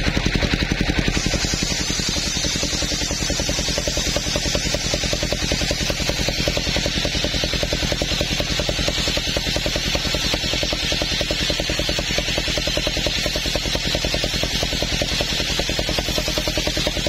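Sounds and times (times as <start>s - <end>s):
engine pulsing: 0.0s - 17.0s
saw blade hissing through wood: 0.1s - 17.0s.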